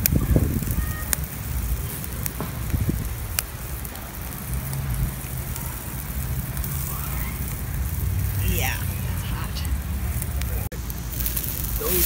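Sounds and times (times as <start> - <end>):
bacon sizzling: 0.0 - 12.0
campfire crackling pops: 0.0 - 12.0.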